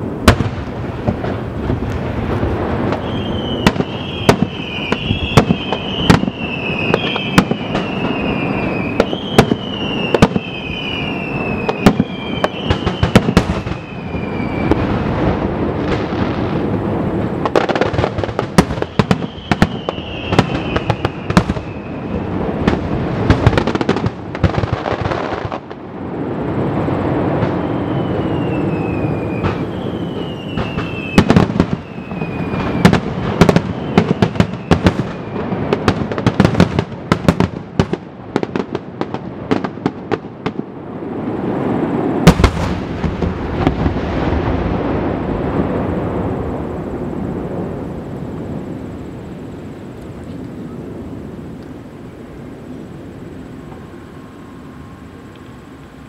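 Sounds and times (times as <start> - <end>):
falling firework whistles: 0.0 - 49.2.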